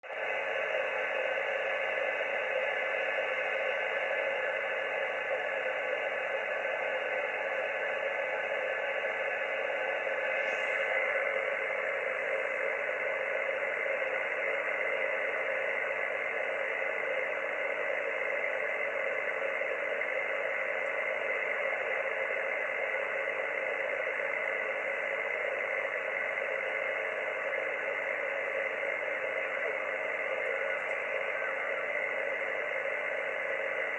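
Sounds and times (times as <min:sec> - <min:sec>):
faint steady tones: 0:00.0 - 0:33.9
radio static hiss: 0:00.0 - 0:33.9.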